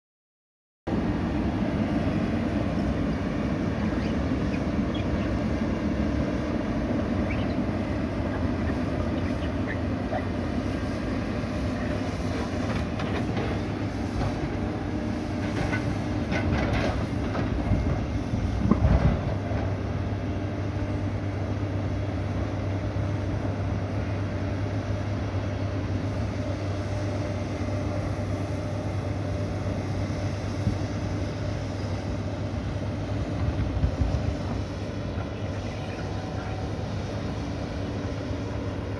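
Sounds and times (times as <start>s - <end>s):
excavator diesel engines: 0.9s - 38.9s.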